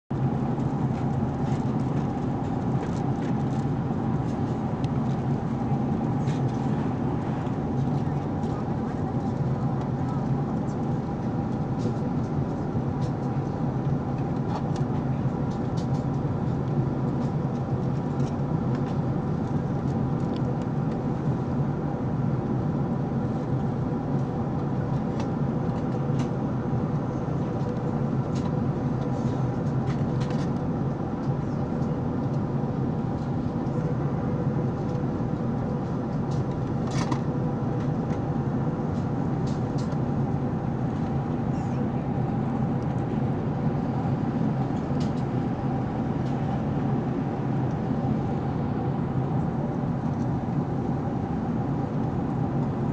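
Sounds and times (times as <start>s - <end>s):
airliner cabin roar: 0.1s - 52.9s
faint steady hums: 0.1s - 52.9s.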